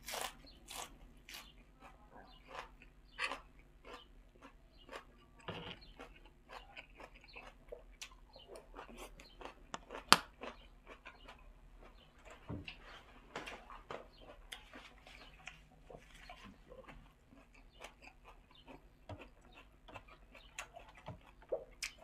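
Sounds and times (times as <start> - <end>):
person chewing and crunching: 0.0 - 22.0.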